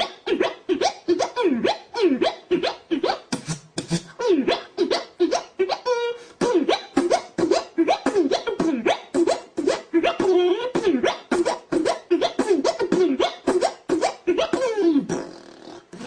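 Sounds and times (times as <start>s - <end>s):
person beatboxing: 0.0s - 16.0s.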